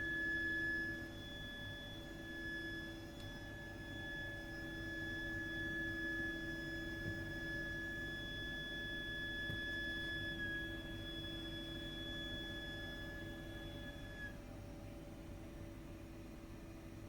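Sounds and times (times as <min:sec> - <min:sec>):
shrill whistle from pipework: 0:00.0 - 0:14.4.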